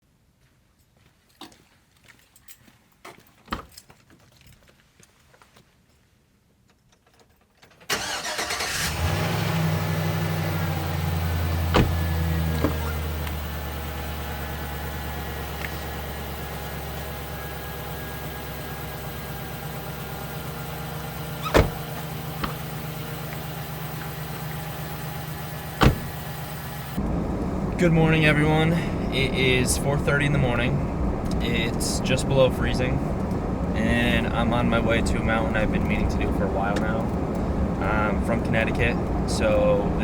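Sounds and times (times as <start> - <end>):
car engine starting and idling: 7.9 - 40.0.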